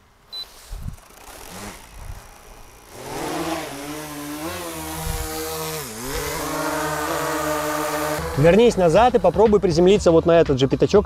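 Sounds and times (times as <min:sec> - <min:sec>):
drone propellers buzzing: 0:00.5 - 0:10.3.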